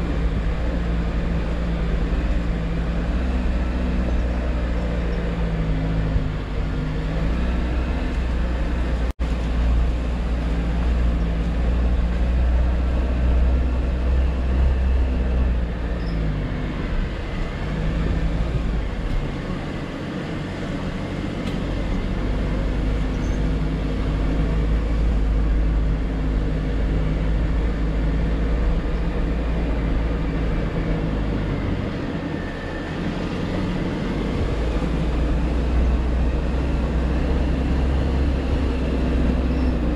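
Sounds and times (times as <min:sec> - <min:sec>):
car engine driving slowly: 0:00.0 - 0:39.9.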